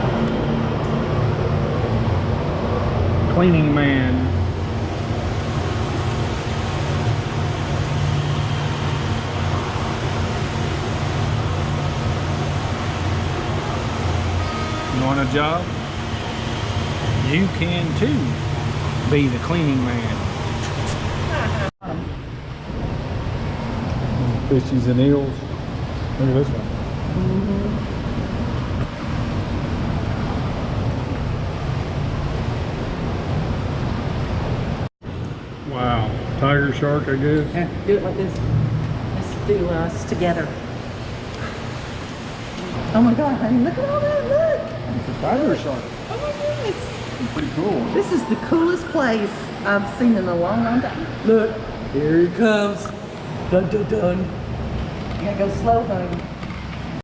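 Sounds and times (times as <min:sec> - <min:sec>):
ventilation and pump machinery hum: 0:00.0 - 0:57.0.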